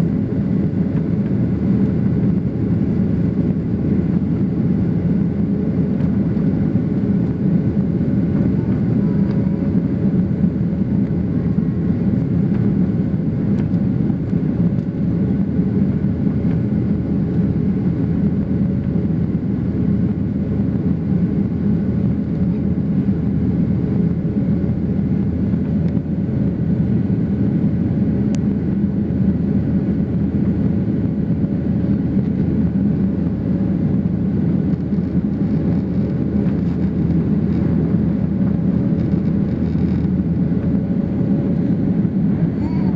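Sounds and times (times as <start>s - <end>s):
jet engine cabin drone: 0.0s - 42.9s.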